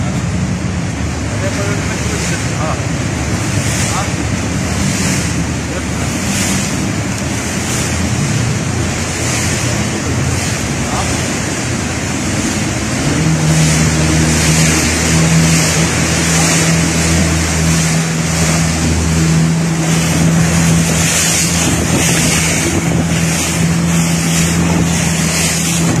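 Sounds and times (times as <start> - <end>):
outboard motor running: 0.0 - 26.0
water rushing past hull: 0.0 - 26.0
wind on microphone: 3.0 - 26.0.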